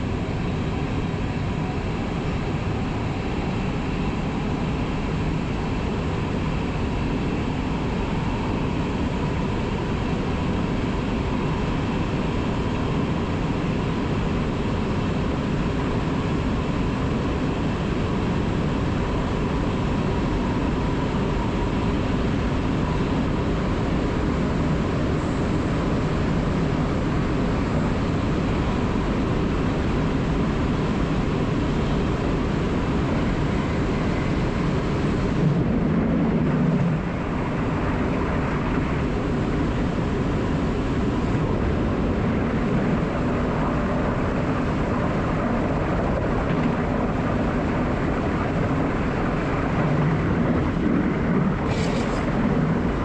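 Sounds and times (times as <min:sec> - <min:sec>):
faint steady whine: 0:00.0 - 0:53.0.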